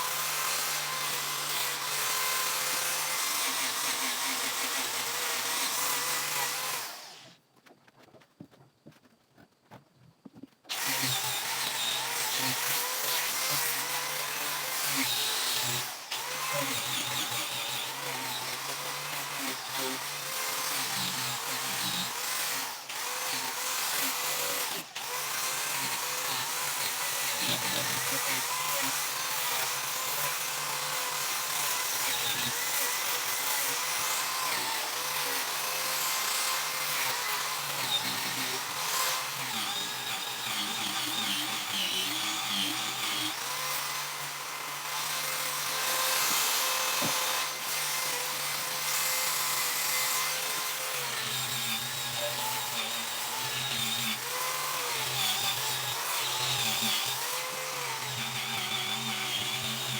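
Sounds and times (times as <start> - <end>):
electric power tool on wood: 0.0 - 7.4, 10.7 - 59.9.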